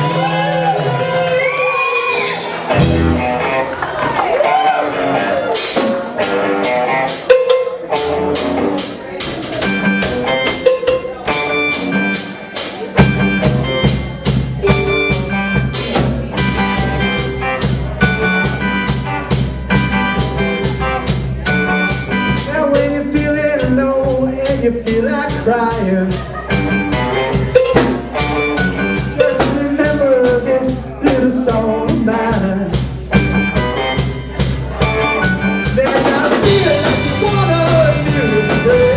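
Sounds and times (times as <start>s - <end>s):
drum kit beats: 0.0s - 38.9s
live rock band playing: 0.0s - 38.9s.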